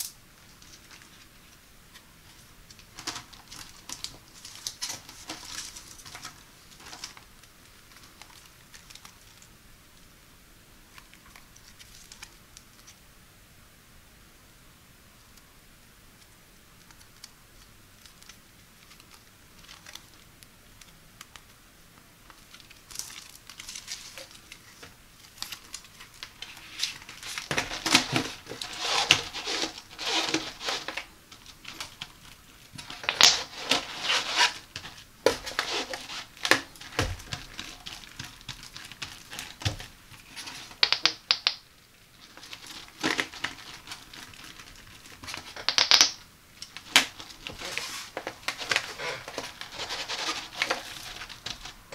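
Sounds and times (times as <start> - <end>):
plastic mat crinkling and rustling: 0.0 - 9.6, 10.9 - 13.0, 16.8 - 21.6, 22.2 - 51.9.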